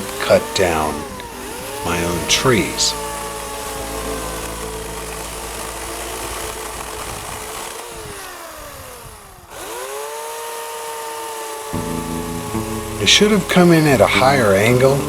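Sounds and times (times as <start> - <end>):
electric chainsaw motor running: 0.0 - 15.0.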